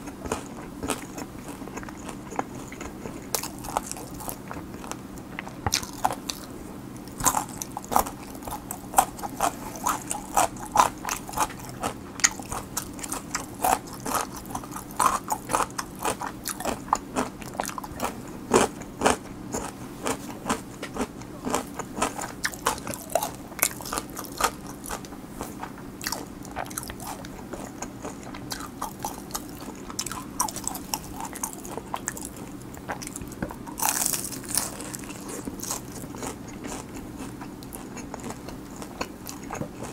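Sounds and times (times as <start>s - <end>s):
crackling crunch of fried chicken: 0.0s - 39.9s
crunchy chewing: 0.0s - 39.9s.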